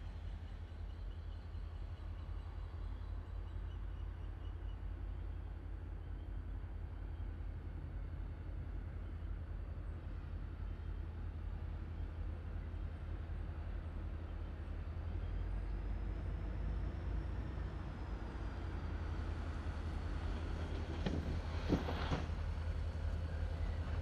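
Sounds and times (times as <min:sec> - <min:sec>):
diesel locomotive rumble: 0:00.0 - 0:24.0.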